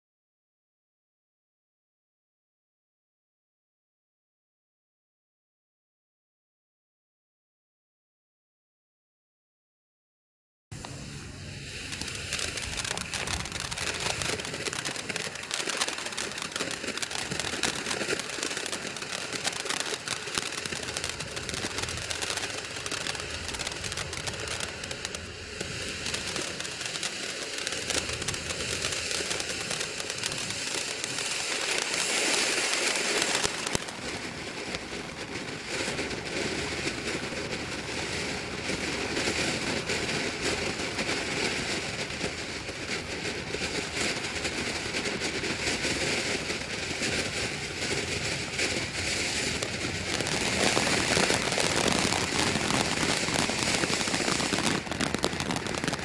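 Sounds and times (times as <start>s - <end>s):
firework fountain crackling: 10.7s - 56.0s.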